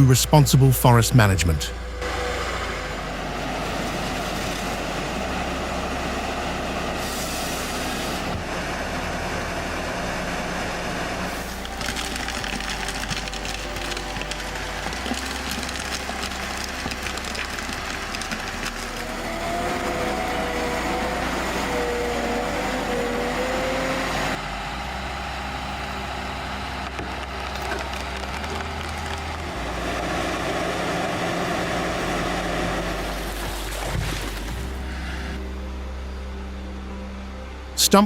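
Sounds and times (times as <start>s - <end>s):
heavy machinery running: 0.0s - 38.0s.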